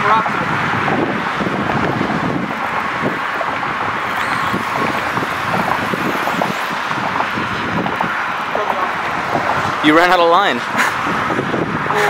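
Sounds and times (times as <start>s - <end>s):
passing road traffic: 0.3s - 12.0s
wind on microphone: 0.3s - 12.0s.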